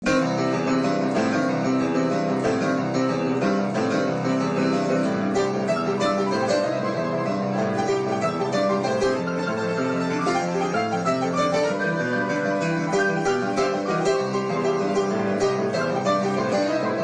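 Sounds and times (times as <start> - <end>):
keyboard playing notes: 0.0 - 17.0.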